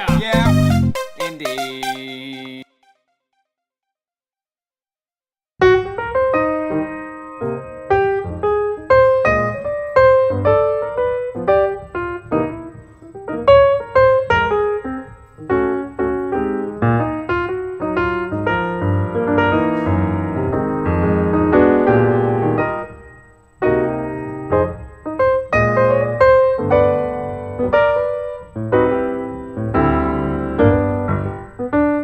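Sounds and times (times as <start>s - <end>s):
solo piano music: 5.6s - 32.0s.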